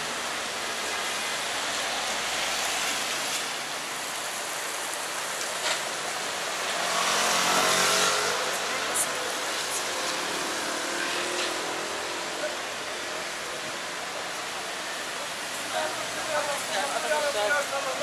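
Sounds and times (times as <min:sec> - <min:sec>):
tyres hissing on wet road: 0:00.0 - 0:18.0
vehicle engines: 0:00.0 - 0:18.0.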